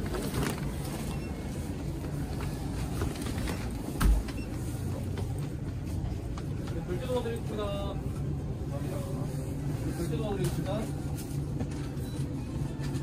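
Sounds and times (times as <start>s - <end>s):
low rumble of store background: 0.0s - 13.0s.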